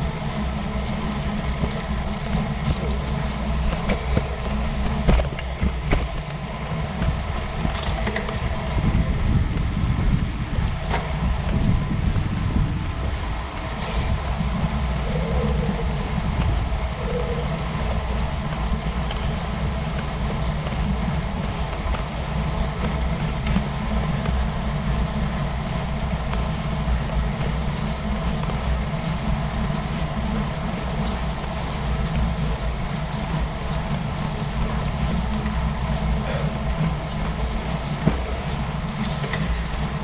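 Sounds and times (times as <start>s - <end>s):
bike tyres rolling on asphalt: 0.0s - 40.0s
wind rushing on microphone: 0.0s - 40.0s.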